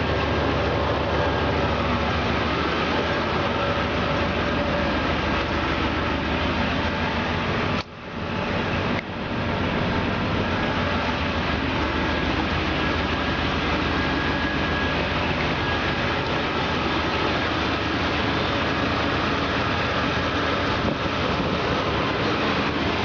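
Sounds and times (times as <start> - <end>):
pickup engine idling: 0.0 - 23.0.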